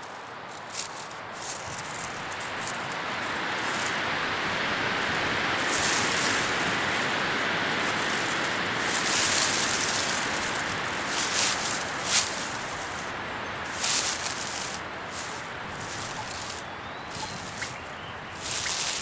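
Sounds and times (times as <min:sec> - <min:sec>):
leaves rustling in wind: 0:00.0 - 0:19.0.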